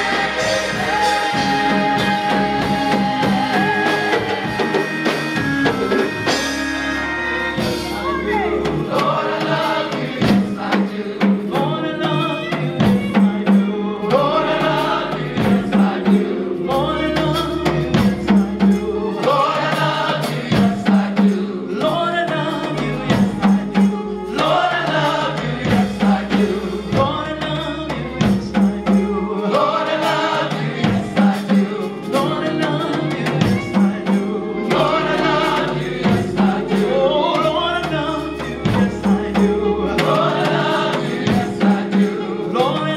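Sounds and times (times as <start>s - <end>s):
drum beat: 0.0s - 6.9s, 7.6s - 42.9s
bass notes: 0.0s - 42.9s
gospel choir singing: 0.0s - 42.9s.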